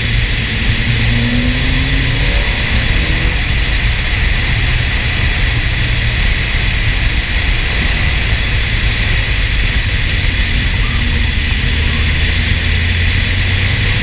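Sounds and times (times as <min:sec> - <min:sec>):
low rumble: 0:00.0 - 0:14.0
wind rushing over microphone: 0:00.0 - 0:14.0.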